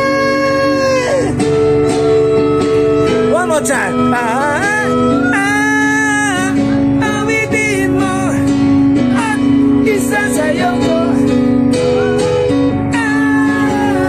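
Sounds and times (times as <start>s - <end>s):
electronic keyboard chords: 0.0s - 14.0s
person singing gliding melody: 0.0s - 14.0s.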